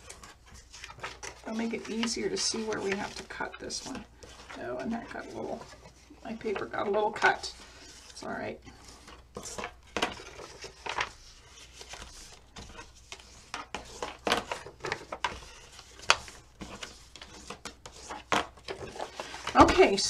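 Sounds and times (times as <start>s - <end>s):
bone folder tapping and scraping paper: 0.0s - 7.4s, 8.8s - 20.0s
paper crinkling: 0.0s - 20.0s.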